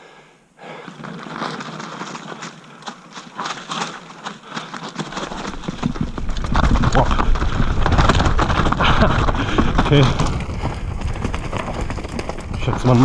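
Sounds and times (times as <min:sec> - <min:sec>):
bike tyres crunching on dirt: 0:00.6 - 0:13.0
bike rattling clicks and knocks: 0:00.8 - 0:13.0.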